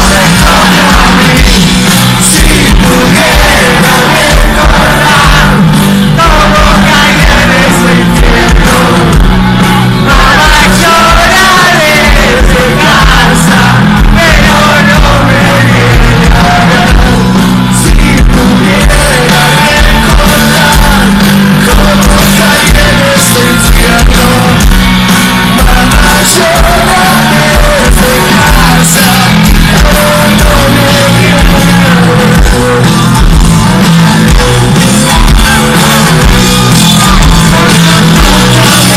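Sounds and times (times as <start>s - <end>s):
person singing: 0.0s - 24.6s, 25.5s - 33.2s, 34.2s - 38.9s
driving drum beat: 0.0s - 38.9s
live rock band playing: 0.0s - 38.9s.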